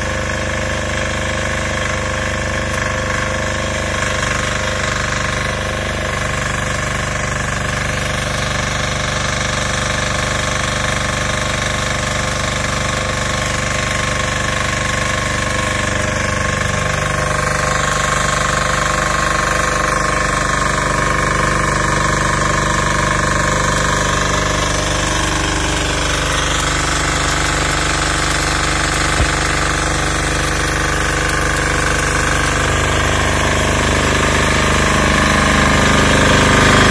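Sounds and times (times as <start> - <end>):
diesel generator running: 0.0 - 36.9
welding arc hissing and crackling: 0.0 - 36.9.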